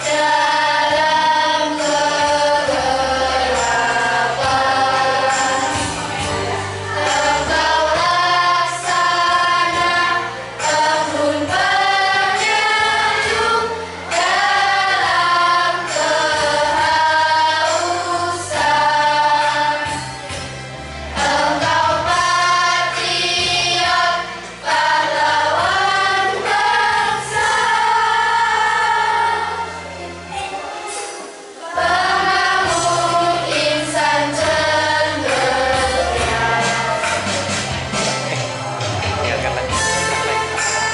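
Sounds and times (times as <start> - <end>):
children's choir singing: 0.0 - 38.5, 39.7 - 40.9.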